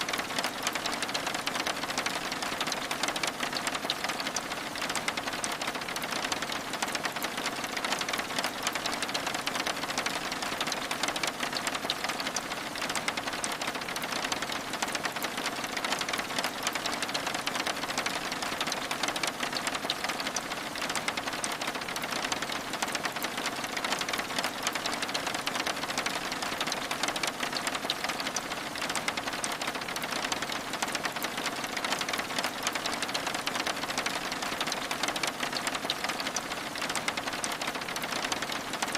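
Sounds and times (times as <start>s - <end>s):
rain on window glass: 0.0s - 38.9s.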